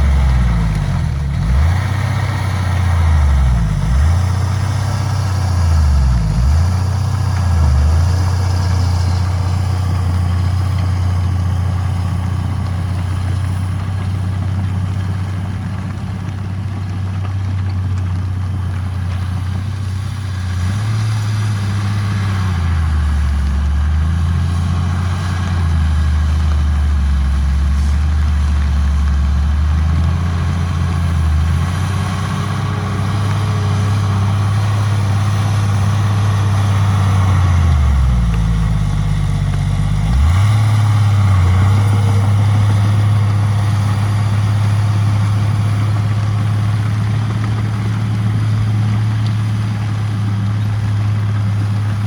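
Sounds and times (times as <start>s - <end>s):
heavy diesel engine under load: 0.0s - 52.0s.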